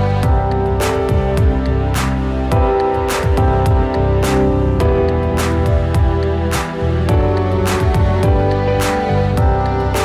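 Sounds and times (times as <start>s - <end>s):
background music with drum beat: 0.2s - 10.0s.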